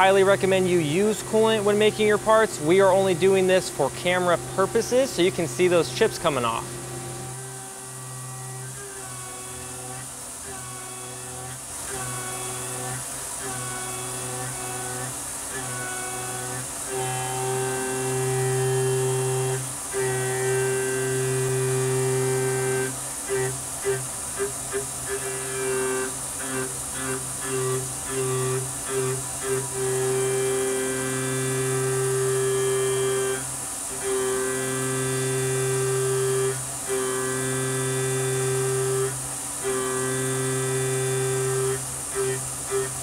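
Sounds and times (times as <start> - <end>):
milling machine high-pitched whine: 0.0 - 43.0.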